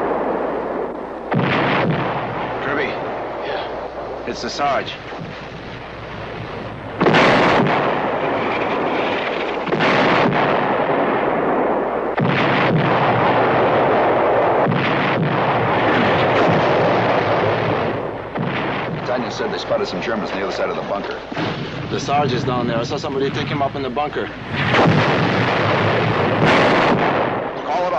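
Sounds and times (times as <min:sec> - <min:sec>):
artillery explosions: 0:00.0 - 0:27.9.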